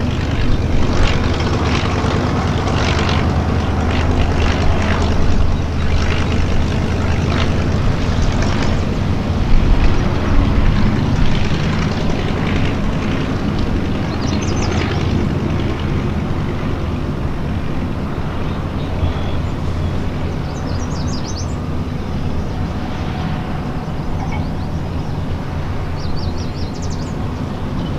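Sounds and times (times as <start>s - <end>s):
propeller plane engine rumble: 0.0s - 27.9s.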